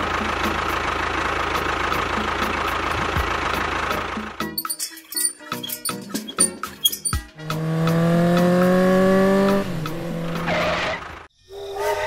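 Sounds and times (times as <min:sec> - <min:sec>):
vehicle engine droning: 0:00.0 - 0:04.7, 0:05.6 - 0:11.3.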